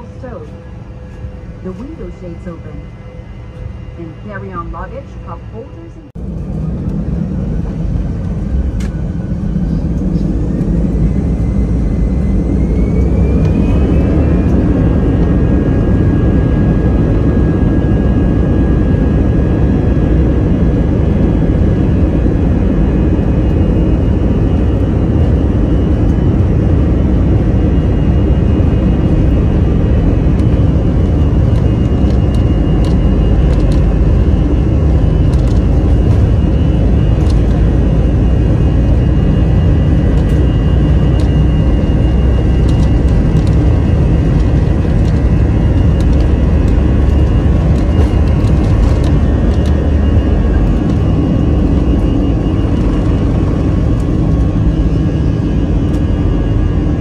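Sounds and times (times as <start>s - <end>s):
jet engines running: 0.0s - 57.0s
thin rising whine: 5.2s - 57.0s.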